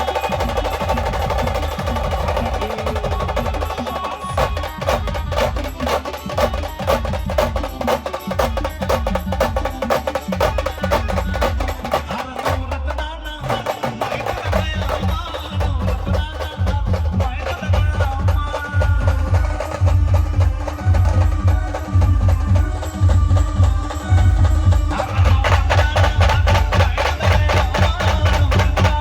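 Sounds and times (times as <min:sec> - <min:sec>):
band dance music: 0:00.0 - 0:29.0
fast dense drumming: 0:00.0 - 0:29.0.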